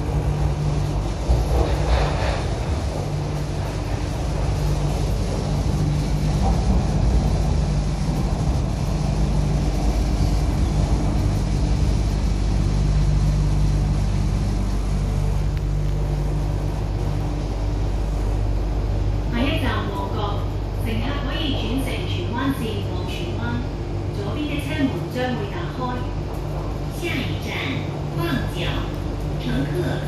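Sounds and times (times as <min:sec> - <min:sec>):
train interior rumble: 0:00.0 - 0:30.0.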